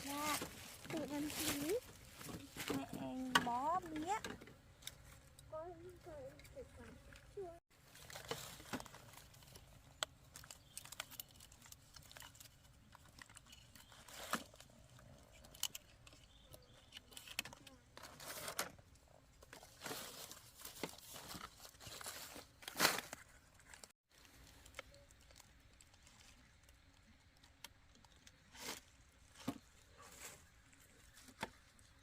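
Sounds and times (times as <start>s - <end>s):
rustling and crinkling: 0.0s - 32.0s.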